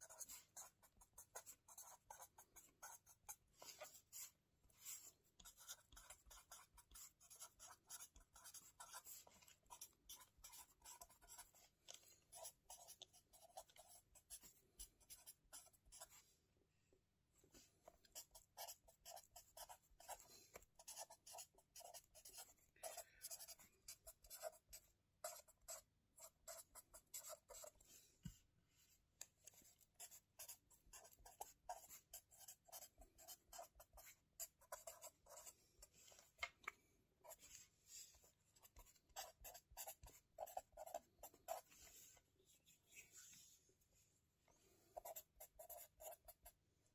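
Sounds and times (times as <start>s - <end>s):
pen scratching on paper: 0.0s - 16.2s, 18.0s - 27.9s, 29.4s - 36.3s, 38.6s - 42.2s, 45.0s - 46.6s.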